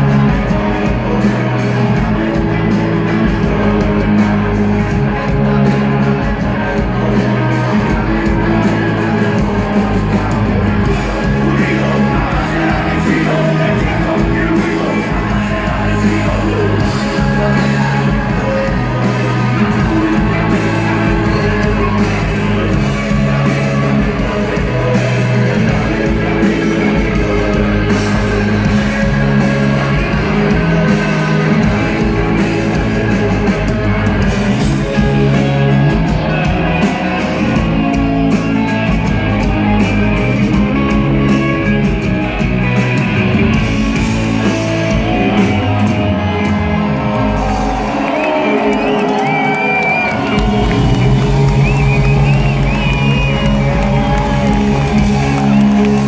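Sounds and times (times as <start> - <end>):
drums: 0.0 - 56.0
electric guitars: 0.0 - 56.0
live rock band playing: 0.0 - 56.0.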